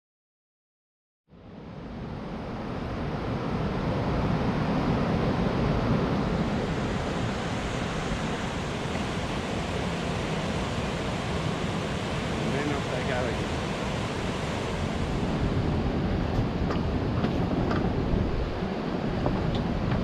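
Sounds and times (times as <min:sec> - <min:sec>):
river water rushing: 0:03.1 - 0:20.0.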